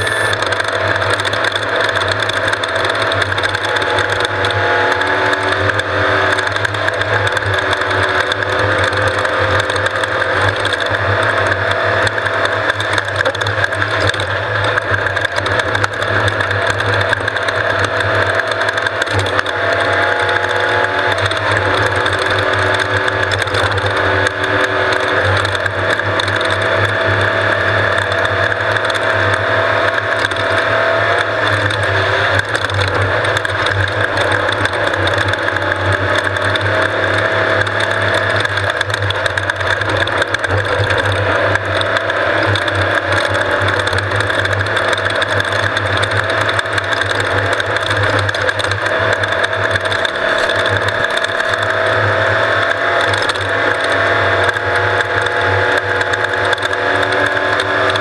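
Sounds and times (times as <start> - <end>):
off-road vehicle engine running: 0.0 - 58.0
vehicle parts rattling: 0.0 - 58.0.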